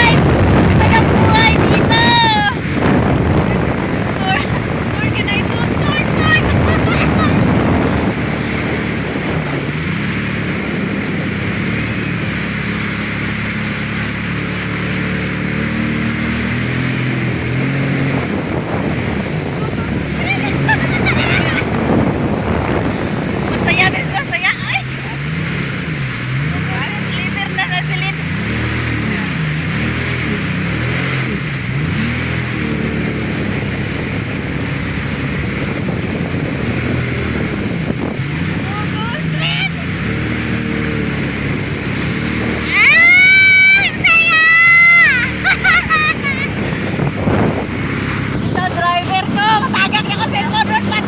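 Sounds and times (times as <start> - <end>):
jet ski engine running: 0.0 - 51.0
rushing hiss of water: 0.0 - 51.0.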